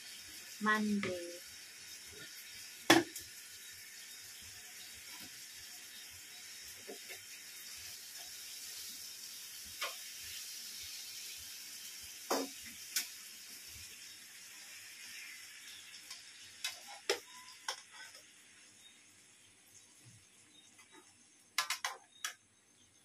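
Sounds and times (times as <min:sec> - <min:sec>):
fish sizzling in oil: 0:00.0 - 0:22.8.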